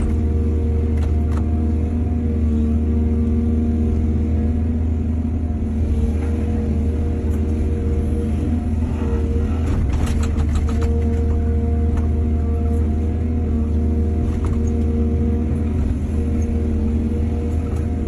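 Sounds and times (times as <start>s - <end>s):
excavator engine humming: 0.0s - 18.0s.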